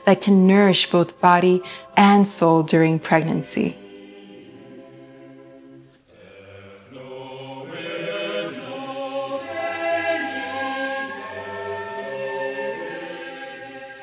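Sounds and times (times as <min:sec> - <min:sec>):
choral chanting in harmony: 0:00.0 - 0:14.0.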